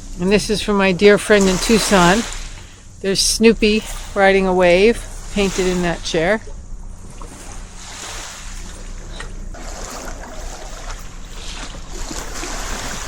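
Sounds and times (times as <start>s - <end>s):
waves washing: 0.0s - 13.0s.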